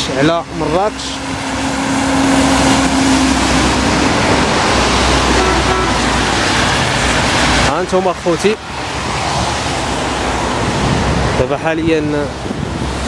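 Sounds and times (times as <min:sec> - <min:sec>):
dump truck engine drone: 0:00.0 - 0:11.5
tyres hissing on wet road: 0:00.0 - 0:13.0.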